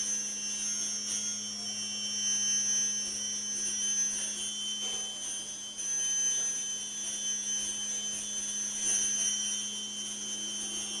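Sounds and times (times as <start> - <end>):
high ringing tones: 0.0 - 11.0
low humming drone: 0.0 - 11.0.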